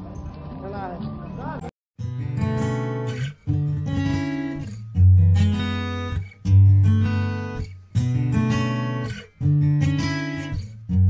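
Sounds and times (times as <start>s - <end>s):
acoustic guitar chords strummed: 2.0s - 11.0s.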